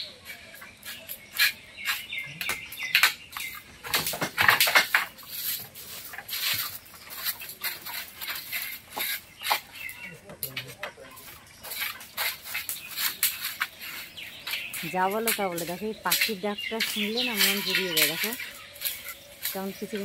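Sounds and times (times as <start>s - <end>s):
dry sticks snapping and crackling: 0.6s - 20.0s.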